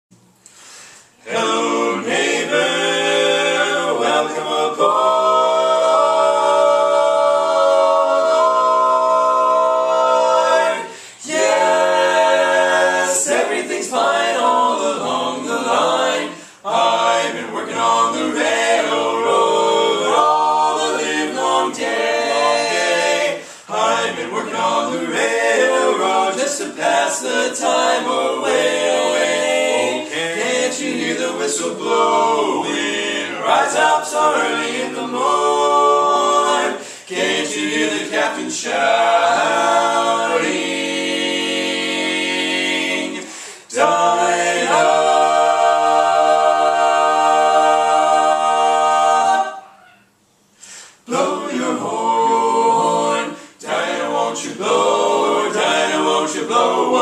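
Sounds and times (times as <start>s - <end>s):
a cappella quartet singing: 0.5s - 57.0s.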